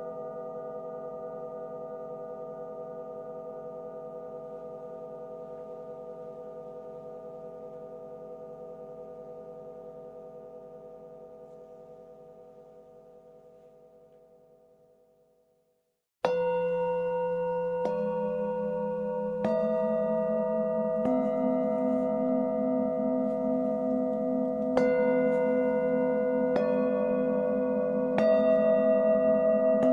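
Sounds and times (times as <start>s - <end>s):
singing bowl ringing: 0.0s - 15.1s, 16.2s - 29.9s.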